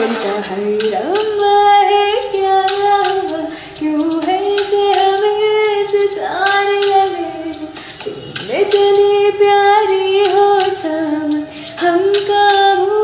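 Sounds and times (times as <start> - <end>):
woman singing solo: 0.0 - 13.0.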